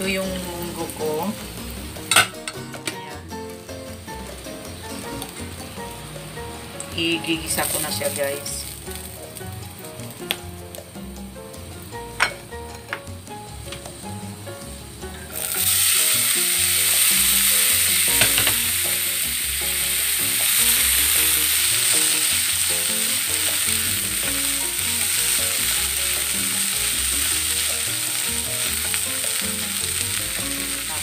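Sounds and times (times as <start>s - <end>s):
beans sizzling in oil: 0.0s - 31.0s.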